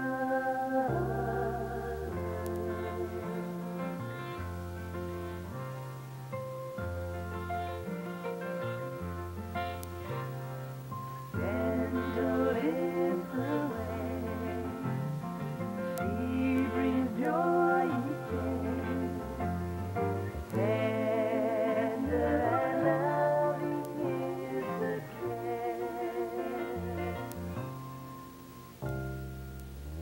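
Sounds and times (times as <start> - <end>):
steady bass line: 0.9 - 30.0.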